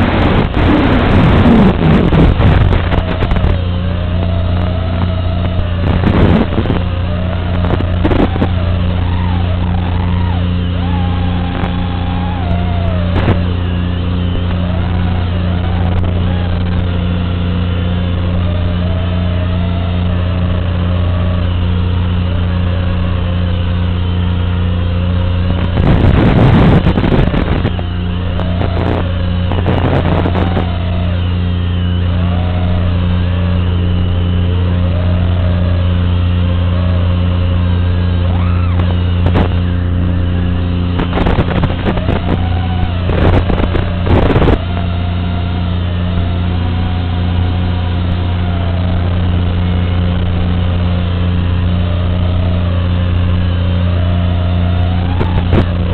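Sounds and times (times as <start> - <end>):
drone motors whining: 0.0 - 55.9
steady low hum: 0.0 - 55.9.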